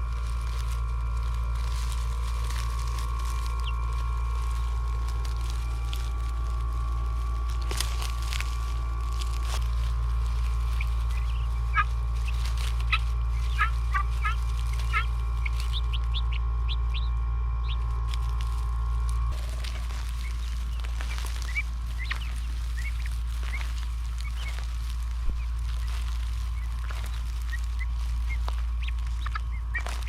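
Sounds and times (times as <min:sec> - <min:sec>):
steady low hum: 0:00.0 - 0:30.0
young guinea fowl chirping: 0:00.0 - 0:30.0.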